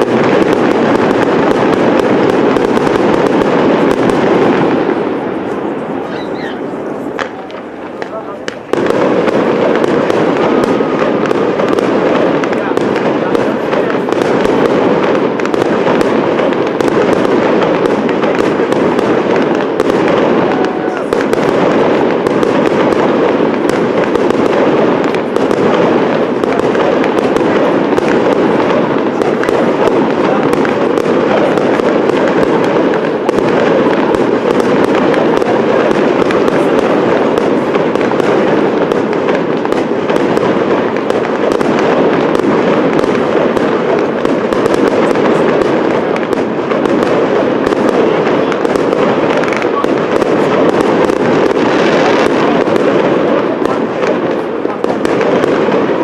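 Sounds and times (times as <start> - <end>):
fireworks crackling and hissing: 0.0 - 56.0.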